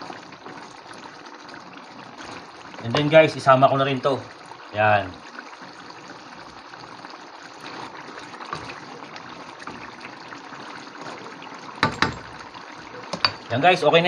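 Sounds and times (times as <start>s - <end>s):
sauce bubbling and sizzling: 0.0s - 14.0s.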